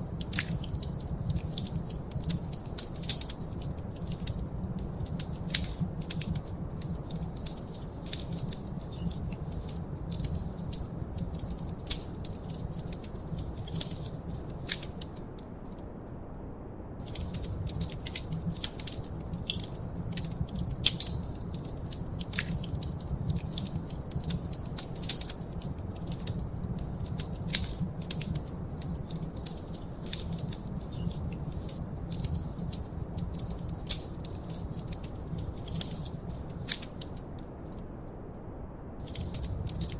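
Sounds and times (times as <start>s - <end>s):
wood fire crackling and popping: 0.0s - 15.8s, 17.0s - 37.8s, 39.0s - 39.9s
low rumble of flames: 0.0s - 39.9s.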